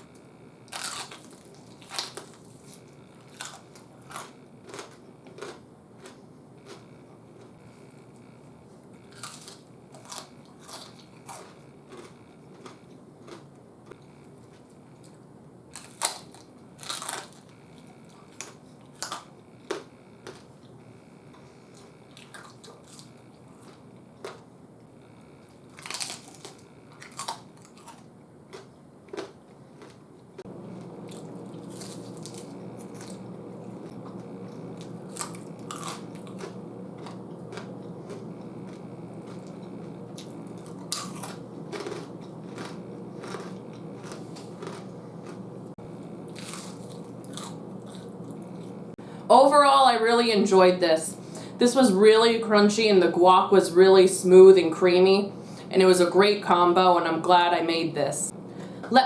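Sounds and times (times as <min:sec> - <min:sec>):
crunchy food being chewed: 0:00.0 - 0:48.9
steady low hum: 0:00.0 - 0:59.0.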